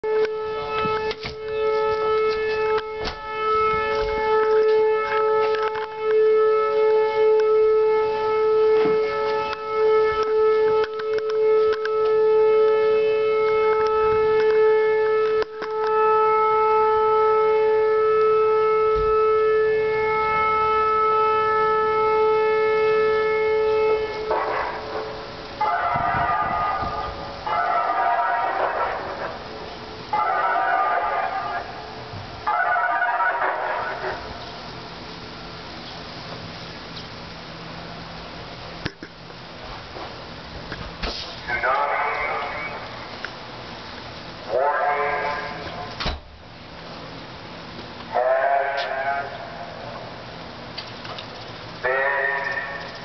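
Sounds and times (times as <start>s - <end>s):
warning siren steady tone: 0.0s - 38.6s, 41.4s - 50.8s, 51.7s - 53.0s.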